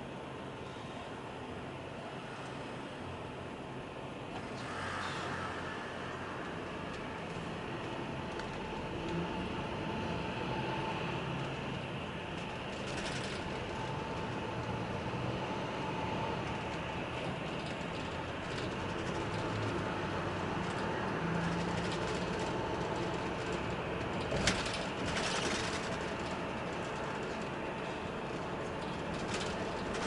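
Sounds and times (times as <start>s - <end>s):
bus engine and road drone: 0.0s - 30.0s.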